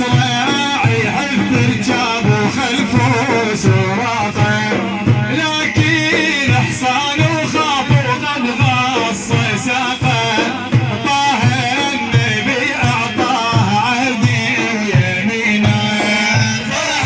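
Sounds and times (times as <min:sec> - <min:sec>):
deep drum beat: 0:00.0 - 0:17.0.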